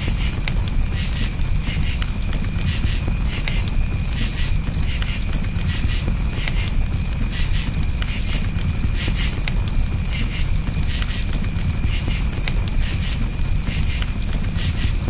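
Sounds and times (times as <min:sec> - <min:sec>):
campfire crackling and popping: 0:00.0 - 0:15.0
crickets chirping: 0:00.0 - 0:15.0.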